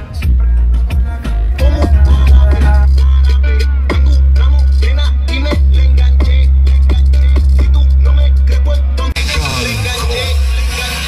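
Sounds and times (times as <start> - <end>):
rapping over heavy bass: 0.0 - 11.0.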